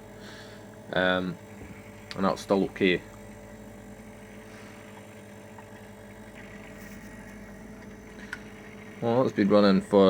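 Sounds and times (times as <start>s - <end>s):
compressors humming: 0.0s - 10.0s.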